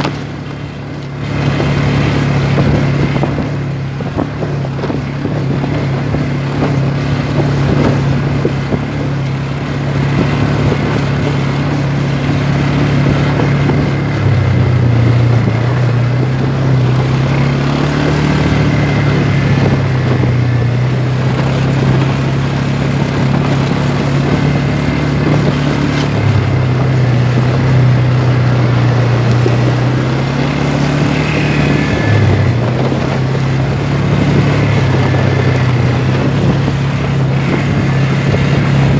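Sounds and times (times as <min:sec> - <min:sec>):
quad bike engine running: 0:00.0 - 0:38.9
wind rush on microphone: 0:00.0 - 0:38.9.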